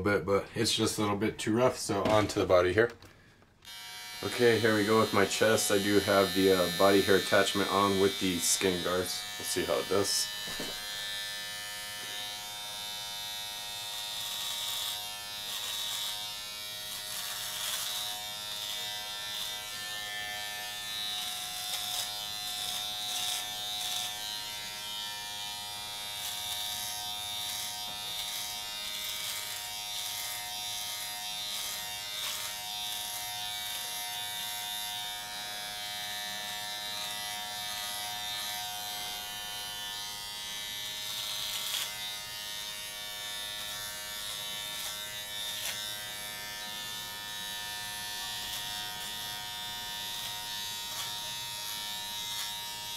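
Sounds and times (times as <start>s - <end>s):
hair cutting crackles: 1.9s - 52.9s
electric trimmer buzzing: 3.6s - 52.9s.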